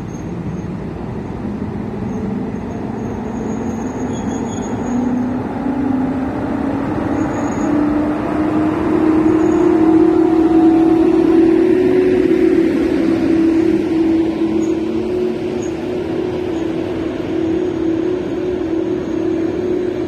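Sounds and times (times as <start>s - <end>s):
electric locomotive rumble and whine: 0.0s - 20.0s.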